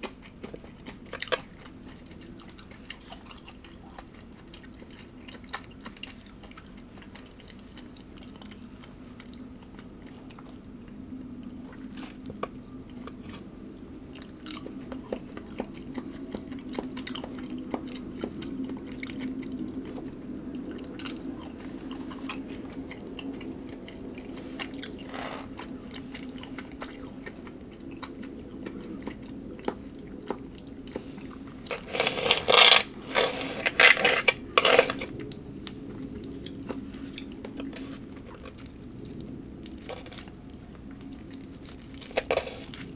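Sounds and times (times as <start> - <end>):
crisp food crunching: 0.0 - 10.6, 11.4 - 42.9
person chewing food: 0.0 - 42.9.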